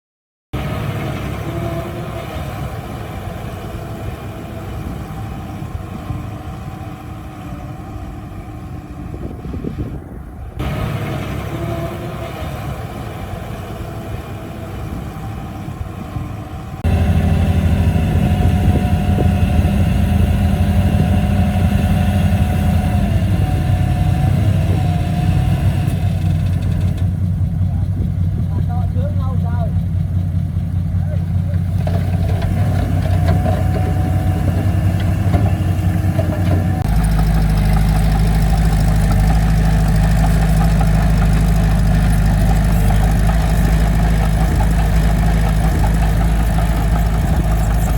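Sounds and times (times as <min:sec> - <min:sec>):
heavy diesel engines running: 0:00.6 - 0:47.9.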